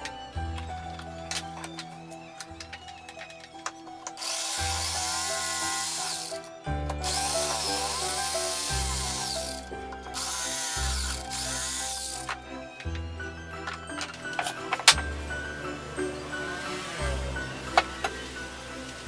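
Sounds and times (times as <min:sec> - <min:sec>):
background music: 0:00.0 - 0:19.0
power drill running: 0:00.0 - 0:19.0.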